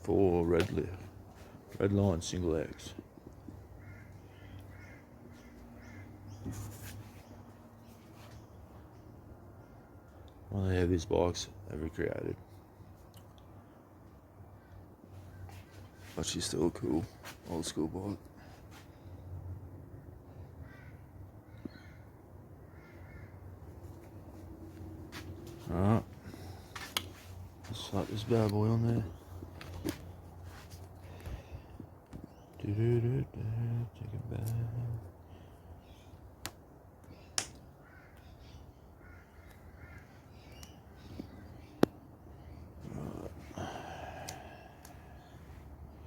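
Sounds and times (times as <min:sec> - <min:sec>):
faint bird calls: 0:02.6 - 0:10.5, 0:13.5 - 0:16.2, 0:18.2 - 0:36.3, 0:37.0 - 0:46.0.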